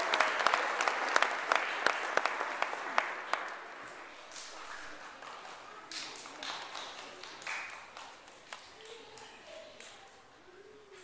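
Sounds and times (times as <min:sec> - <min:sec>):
hands clapping: 0:00.0 - 0:10.1.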